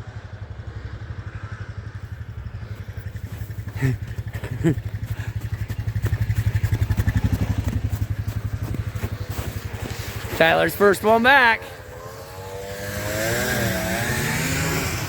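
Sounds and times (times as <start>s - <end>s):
snowmobile engines running: 0.0s - 15.0s.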